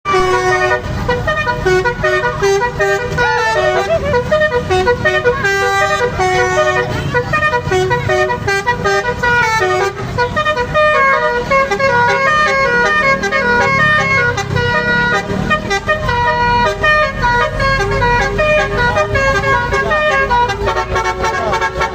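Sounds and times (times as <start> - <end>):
bus multi-tone horn tune: 0.0 - 21.9.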